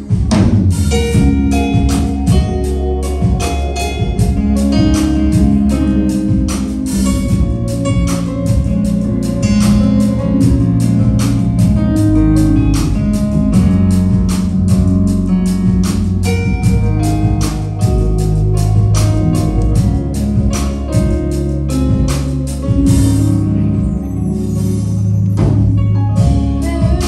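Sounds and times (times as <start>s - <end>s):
drum kit beat: 0.0s - 27.0s
instrumental band music: 0.0s - 27.0s.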